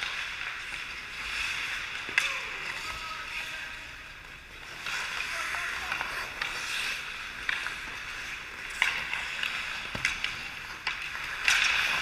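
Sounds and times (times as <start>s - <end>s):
hockey sticks and puck clacking: 0.0s - 12.0s
skates scraping ice: 0.0s - 12.0s.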